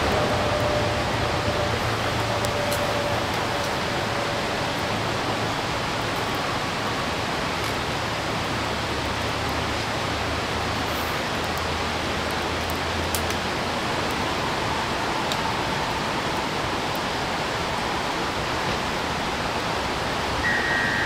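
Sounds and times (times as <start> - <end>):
flowing stream: 0.0 - 21.0
wood fire crackles: 0.0 - 21.0.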